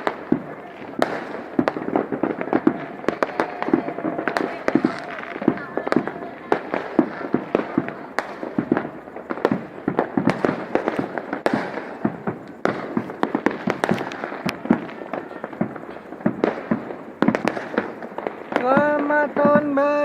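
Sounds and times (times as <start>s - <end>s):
continuous background din: 0.0s - 20.0s
fireworks bangs and pops: 0.0s - 20.0s.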